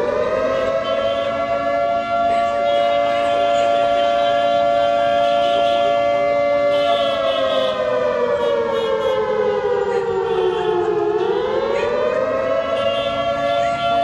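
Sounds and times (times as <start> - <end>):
siren-like tone: 0.0 - 14.0.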